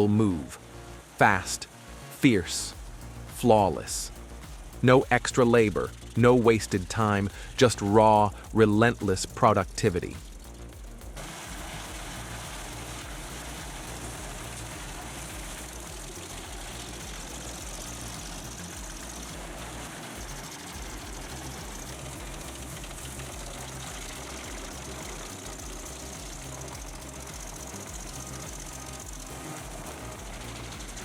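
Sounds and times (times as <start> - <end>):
firewood processor engine droning: 0.0 - 31.0
mechanical noise: 2.2 - 31.0.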